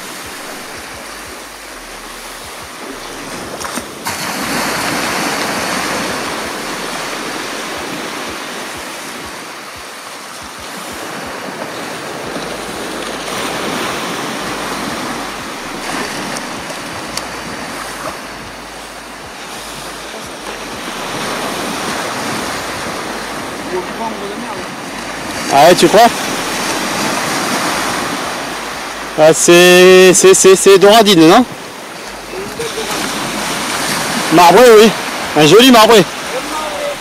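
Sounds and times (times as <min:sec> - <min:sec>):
small waves breaking on sand: 0:00.0 - 0:37.0.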